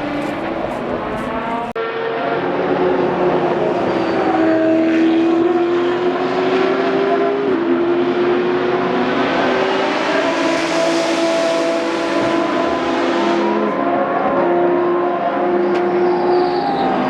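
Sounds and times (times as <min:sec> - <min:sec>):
car engine accelerating: 0:00.0 - 0:17.0
race car engines running hard: 0:00.0 - 0:17.0.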